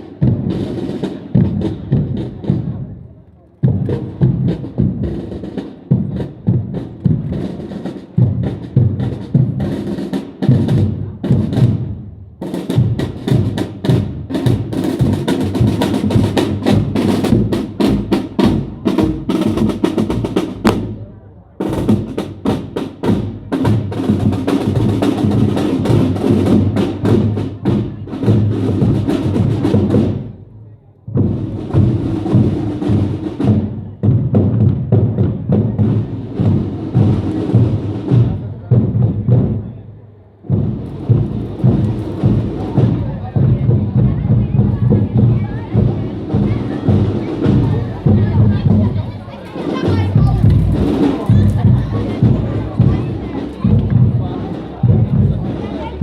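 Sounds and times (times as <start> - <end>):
drums beating: 0.0 - 56.0
marching band playing: 0.0 - 56.0.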